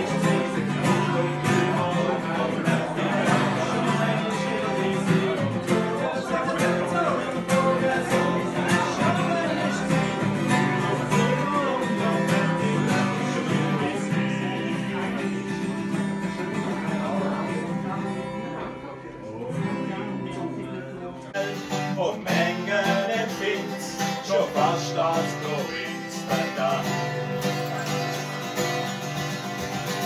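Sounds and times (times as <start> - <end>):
acoustic guitars strumming: 0.0 - 30.0
man singing: 0.0 - 30.0.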